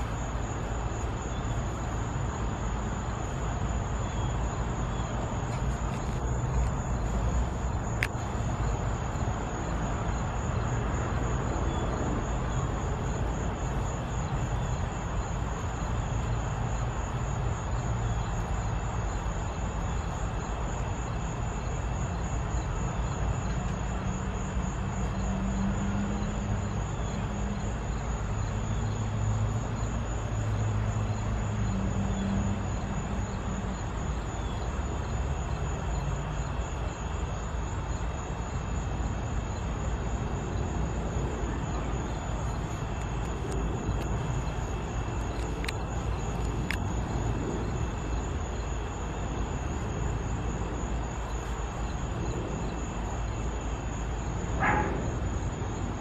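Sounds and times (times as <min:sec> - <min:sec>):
distant traffic rumble: 0:00.0 - 0:56.0.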